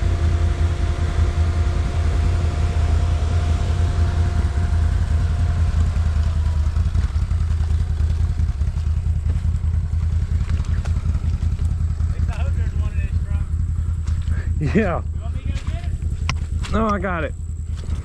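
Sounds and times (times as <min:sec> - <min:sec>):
engine idling with low rumble: 0:00.0 - 0:18.0
faint engine hum: 0:00.0 - 0:18.0.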